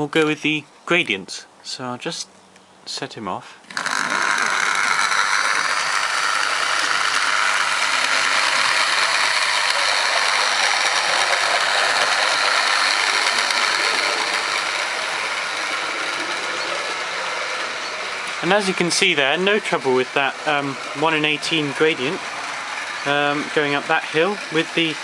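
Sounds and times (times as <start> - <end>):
model train motor whirring and rattling: 3.7 - 25.0.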